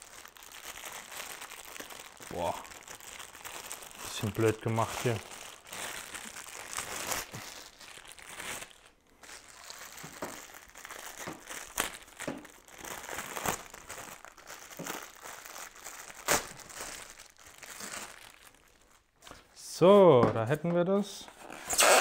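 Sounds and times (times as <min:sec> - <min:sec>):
packaging crinkling and rustling: 0:00.0 - 0:19.6.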